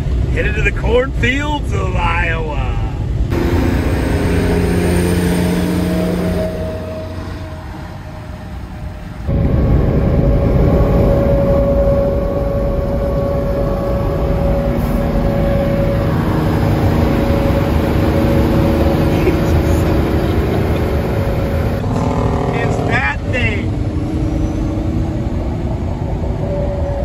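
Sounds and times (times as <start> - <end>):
road and wind noise: 0.0 - 27.0
truck diesel engine: 0.0 - 27.0.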